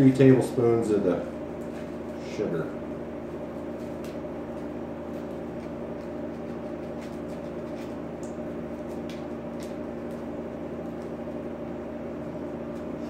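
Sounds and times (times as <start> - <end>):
appliance hum with tones: 0.0 - 13.0.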